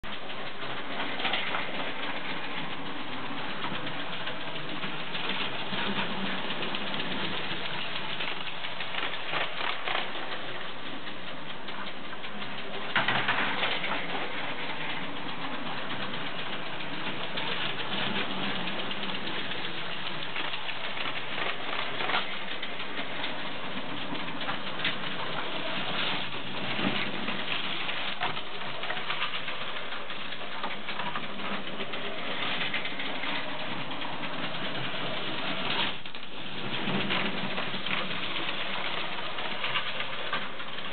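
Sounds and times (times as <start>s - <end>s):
toy trains whirring on track: 0.0s - 40.9s
wheels clattering on rails: 0.0s - 40.9s.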